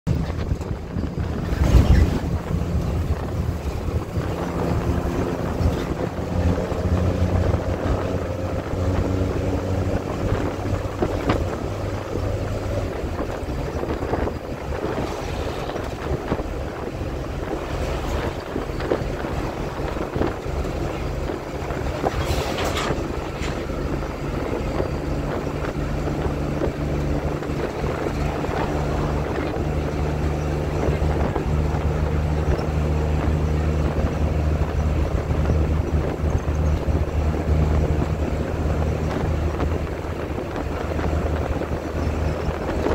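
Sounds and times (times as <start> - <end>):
road rumble: 0.0 - 42.9
bus engine humming: 0.1 - 42.9
wind noise: 0.1 - 42.9.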